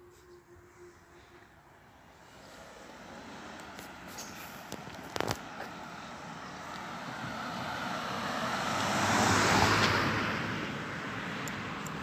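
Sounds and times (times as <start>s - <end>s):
car driving past: 0.8s - 10.9s.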